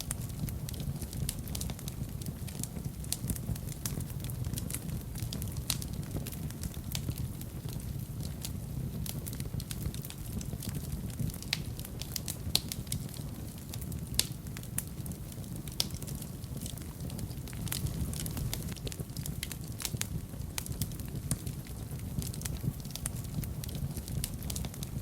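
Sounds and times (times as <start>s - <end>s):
fire crackling in a fireplace: 0.0s - 25.0s
low rumble of flames: 0.0s - 25.0s.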